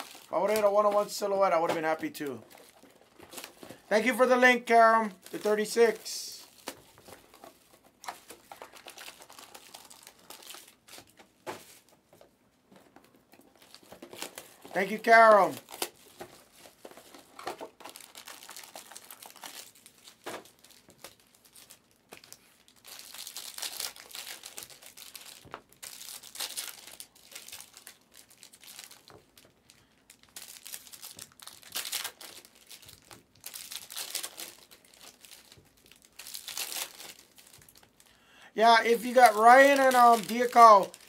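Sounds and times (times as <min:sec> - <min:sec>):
wrapper tearing open: 0:00.0 - 0:00.8, 0:05.1 - 0:11.9, 0:13.5 - 0:38.1, 0:39.0 - 0:41.0
foil wrappers crinkling: 0:00.0 - 0:12.0, 0:13.0 - 0:41.0.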